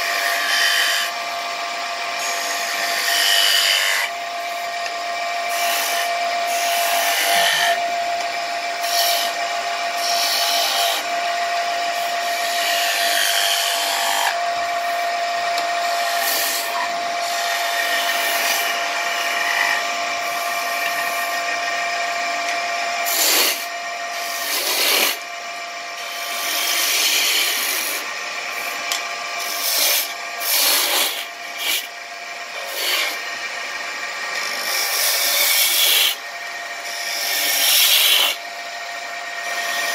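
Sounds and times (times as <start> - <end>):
turning tool scraping wood: 0.0 - 39.9
wood lathe whining: 0.0 - 39.9.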